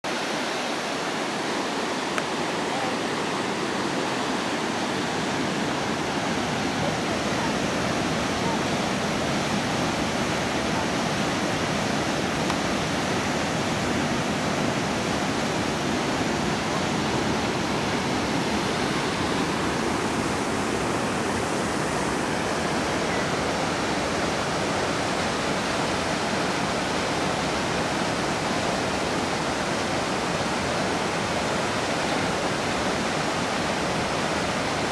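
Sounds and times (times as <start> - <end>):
rushing white water: 0.0 - 34.9.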